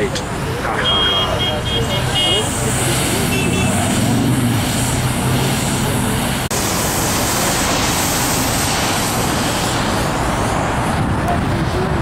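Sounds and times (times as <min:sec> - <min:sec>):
street traffic rush: 0:00.0 - 0:12.0.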